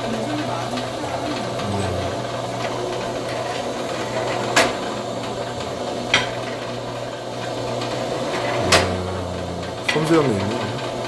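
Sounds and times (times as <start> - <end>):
workshop motor hum: 0.0 - 11.0.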